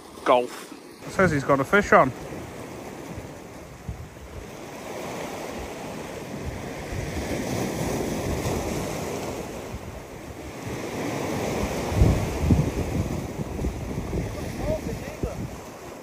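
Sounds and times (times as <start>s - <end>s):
surf washing against rocks: 0.0s - 16.0s
wind buffeting microphone: 1.0s - 16.0s.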